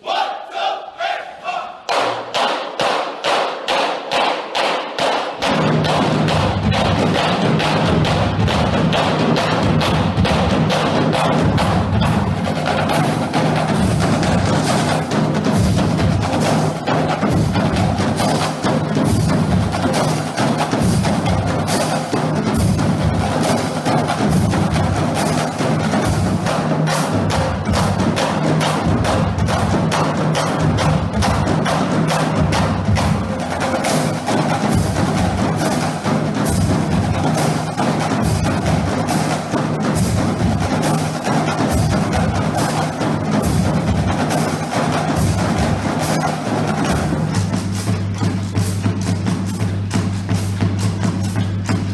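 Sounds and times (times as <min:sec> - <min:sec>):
marching drumline playing: 0:00.0 - 0:51.9.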